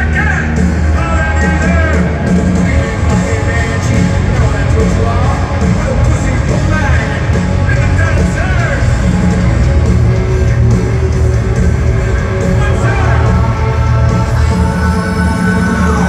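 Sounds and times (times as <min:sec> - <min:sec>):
live hard rock band: 0:00.0 - 0:16.0
yelled vocals: 0:00.0 - 0:16.0.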